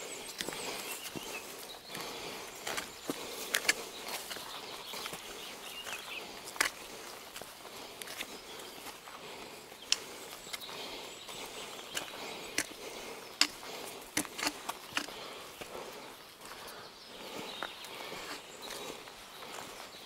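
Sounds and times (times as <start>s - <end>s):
footsteps walking: 0.0s - 19.9s.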